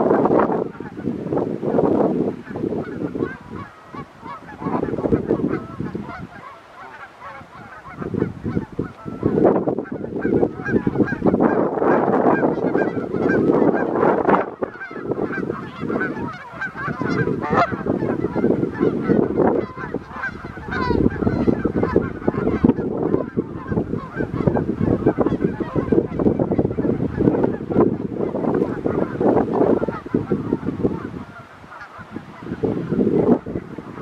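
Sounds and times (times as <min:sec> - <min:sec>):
flock of birds honking: 0:00.0 - 0:34.0.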